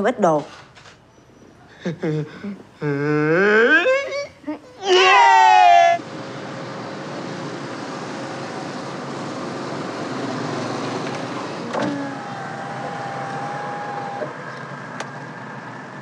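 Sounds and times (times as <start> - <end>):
road traffic: 0.6 - 16.0.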